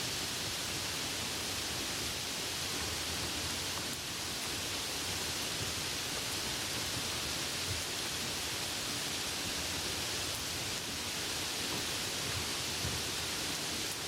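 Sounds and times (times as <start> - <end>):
soft rain falling: 0.0 - 14.0.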